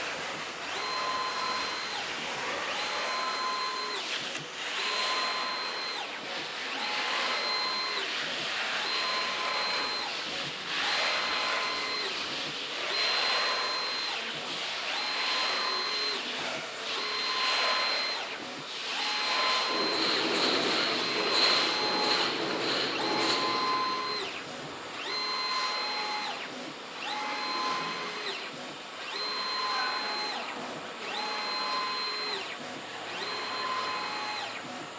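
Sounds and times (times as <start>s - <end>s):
plotter motors whining: 0.0s - 34.9s.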